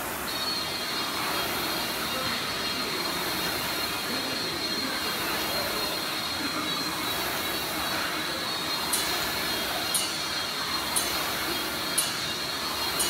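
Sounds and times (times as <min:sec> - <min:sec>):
rowing machine fan whooshing: 0:00.0 - 0:13.0.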